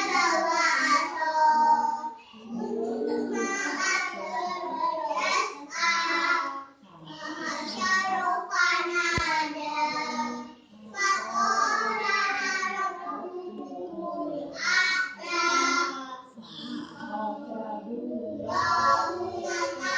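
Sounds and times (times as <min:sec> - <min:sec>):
children chanting recitation: 0:00.0 - 0:19.9.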